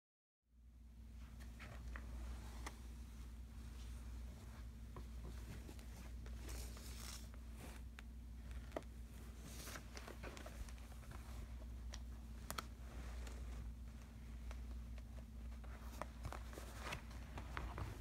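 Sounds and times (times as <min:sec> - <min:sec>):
steady low hum: 0:00.5 - 0:18.0.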